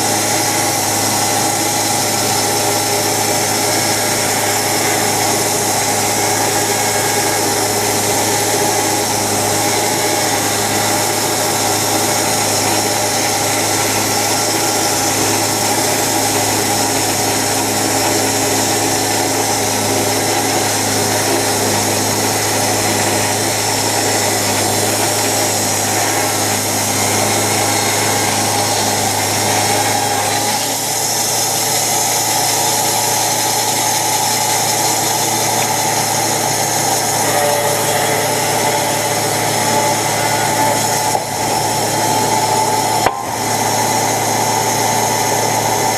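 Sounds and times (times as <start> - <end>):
band sawmill cutting log: 0.0 - 45.9.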